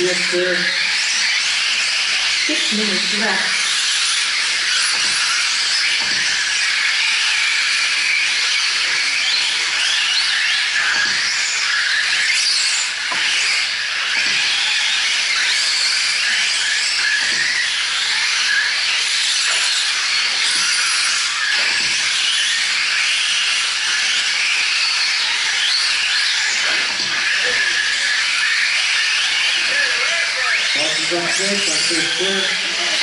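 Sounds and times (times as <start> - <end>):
high-pitched motor whines: 0.0 - 33.0
radio-controlled trucks racing: 0.0 - 33.0.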